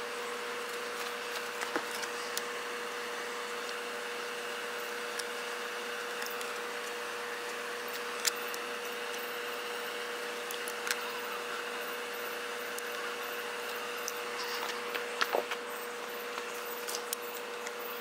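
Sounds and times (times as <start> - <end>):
steady hum and hiss: 0.0 - 18.0.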